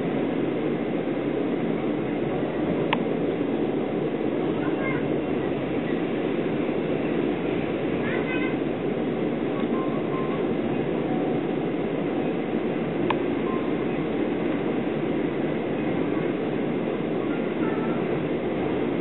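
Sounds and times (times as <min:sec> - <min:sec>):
train carriage rumbling on track: 0:00.0 - 0:19.0.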